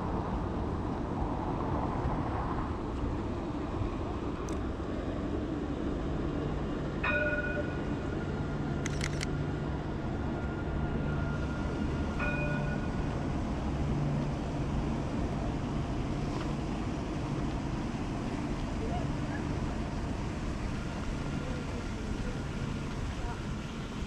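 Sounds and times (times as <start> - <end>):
city rumble: 0.0 - 24.0.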